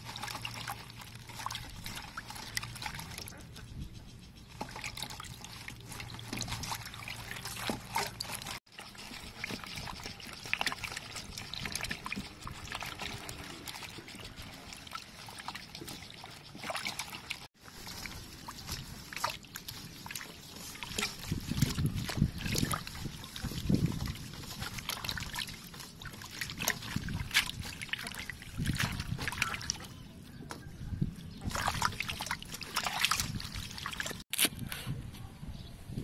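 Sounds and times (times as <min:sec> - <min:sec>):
hands swishing greens in water: 0:00.0 - 0:03.6, 0:04.5 - 0:29.9, 0:31.4 - 0:34.2.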